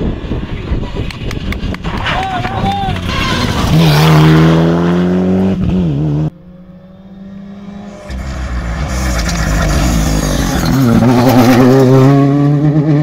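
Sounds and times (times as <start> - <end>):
distant rally car engine: 0.0 - 13.0
rally car engine at full throttle: 0.0 - 13.0.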